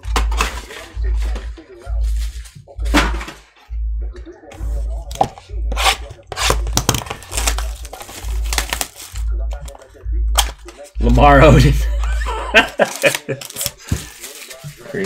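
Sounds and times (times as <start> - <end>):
cardboard and wrappers crinkling: 0.0 - 3.5, 4.7 - 11.0, 12.2 - 15.0.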